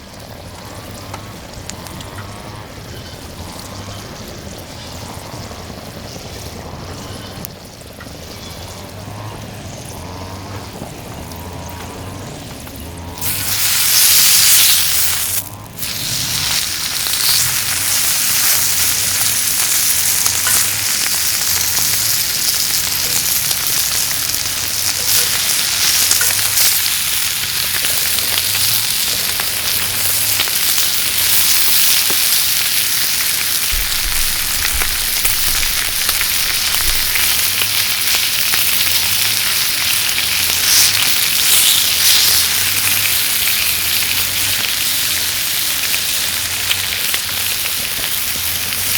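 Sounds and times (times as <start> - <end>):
meat sizzling on a grill: 8.4 - 48.9.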